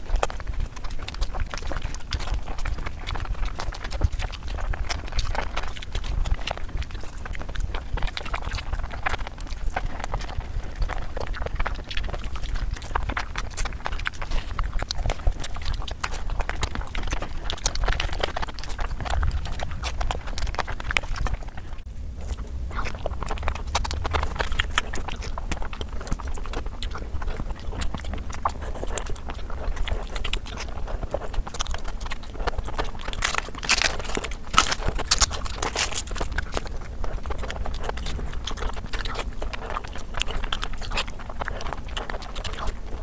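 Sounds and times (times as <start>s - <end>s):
chewing and lip-smacking: 0.0s - 43.0s.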